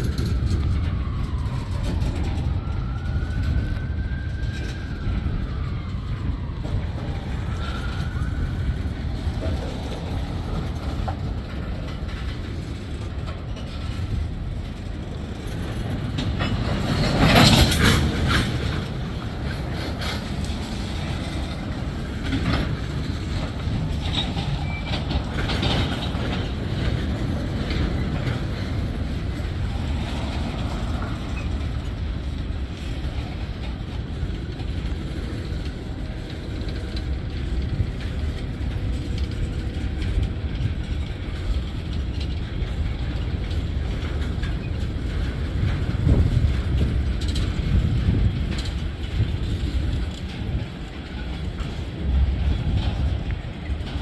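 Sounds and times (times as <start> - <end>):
clicks and clanks over rail joints: 0.0 - 54.0
train wheels rumbling on rail: 0.0 - 54.0.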